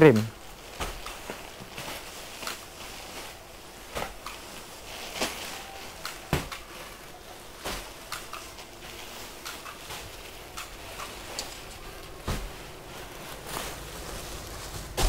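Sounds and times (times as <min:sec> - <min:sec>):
crinkling plastic: 0:00.0 - 0:15.0
packs thumping on tile floor: 0:00.3 - 0:15.0.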